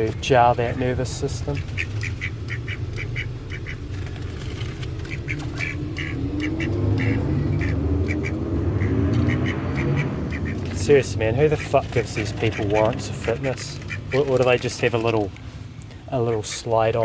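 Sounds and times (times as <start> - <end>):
distant motorbike engine revving: 0.0 - 15.4
ducks calling: 0.1 - 17.0.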